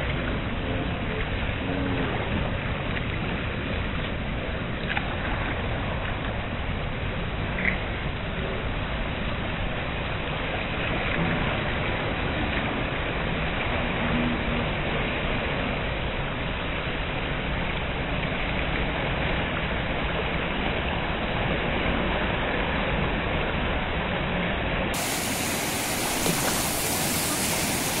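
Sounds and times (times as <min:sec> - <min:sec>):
low rumble: 0:00.0 - 0:28.0
river water rushing over rocks: 0:00.9 - 0:28.0.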